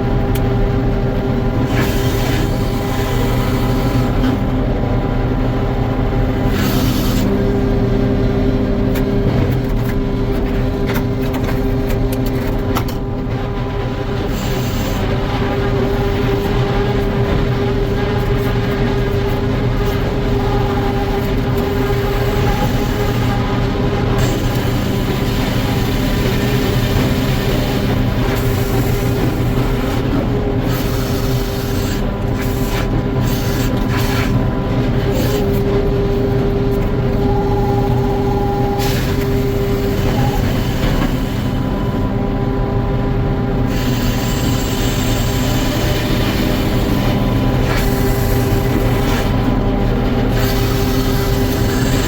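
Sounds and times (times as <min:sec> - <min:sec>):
sawmill machinery humming: 0:00.0 - 0:52.0.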